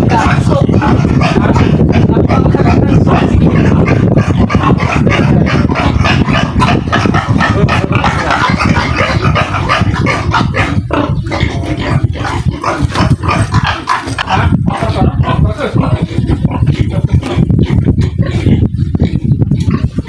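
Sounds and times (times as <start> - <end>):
pigs squealing and grunting: 0.0 - 20.0.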